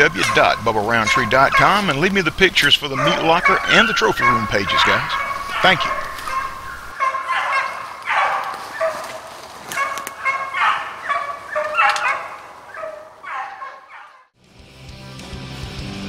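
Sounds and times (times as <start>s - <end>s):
hounds barking and baying: 0.0s - 14.4s.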